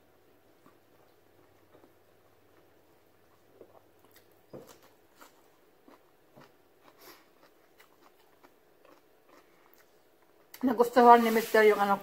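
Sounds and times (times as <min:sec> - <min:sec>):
person chewing with mouth closed: 0:00.5 - 0:10.6.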